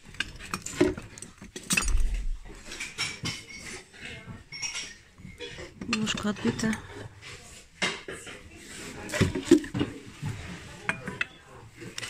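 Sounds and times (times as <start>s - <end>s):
glass and porcelain clinking: 0.0s - 7.0s, 9.1s - 12.0s.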